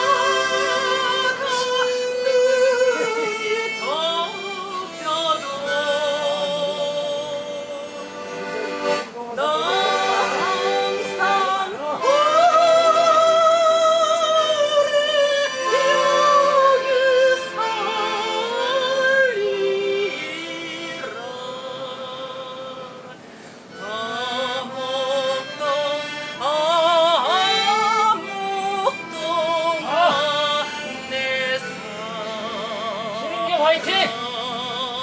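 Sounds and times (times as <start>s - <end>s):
woman singing with vibrato: 0.0s - 8.2s, 9.0s - 35.0s
instrumental accompaniment: 0.0s - 35.0s.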